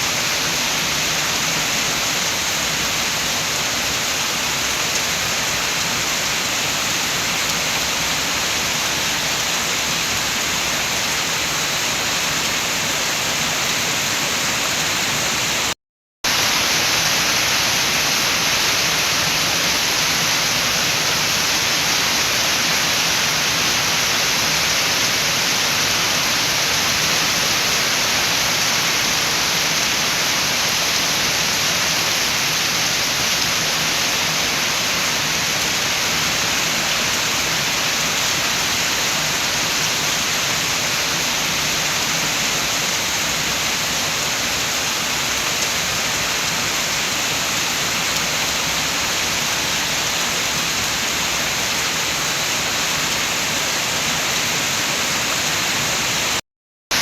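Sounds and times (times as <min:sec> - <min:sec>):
steady rain: 0:00.0 - 0:57.0
wind: 0:00.0 - 0:57.0.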